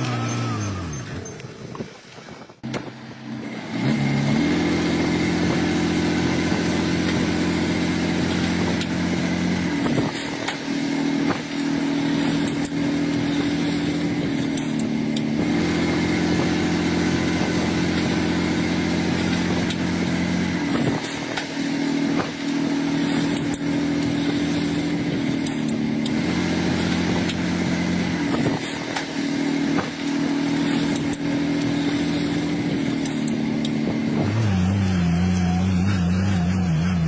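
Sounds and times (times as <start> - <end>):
heavy machinery diesel engines: 2.5 - 37.0.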